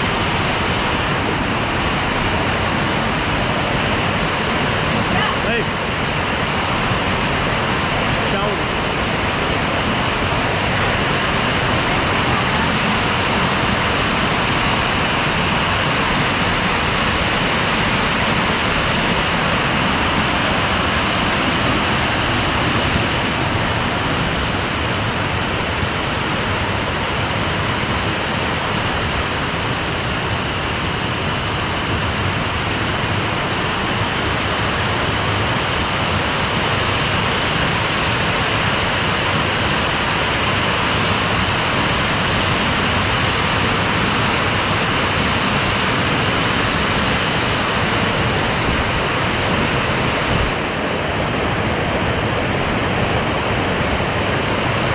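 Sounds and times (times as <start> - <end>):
waterfall rushing over rocks: 0.0 - 54.9.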